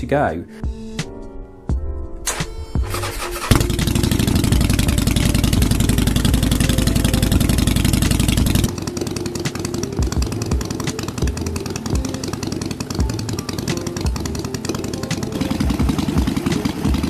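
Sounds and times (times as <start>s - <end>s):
motorcycle engine idling: 2.8s - 17.0s.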